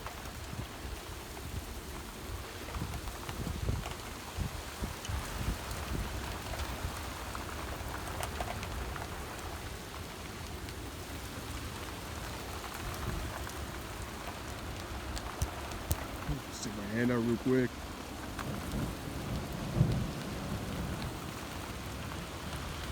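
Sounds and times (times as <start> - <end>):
heavy rain pouring: 0.0 - 22.9
taps of raindrops: 0.0 - 22.9
wind buffeting microphone: 0.3 - 9.6, 12.4 - 22.9.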